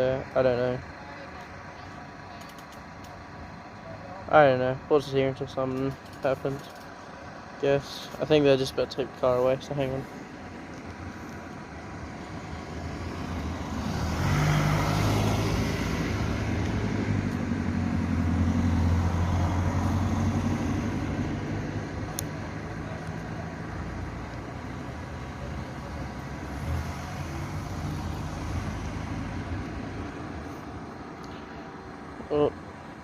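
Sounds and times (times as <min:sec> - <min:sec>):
road traffic noise: 0:00.0 - 0:33.0
vehicle engine hum: 0:00.0 - 0:33.0.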